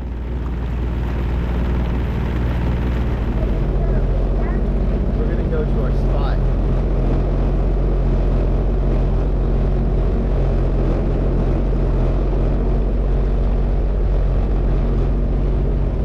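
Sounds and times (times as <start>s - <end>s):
jet ski engine drone: 0.0s - 16.0s.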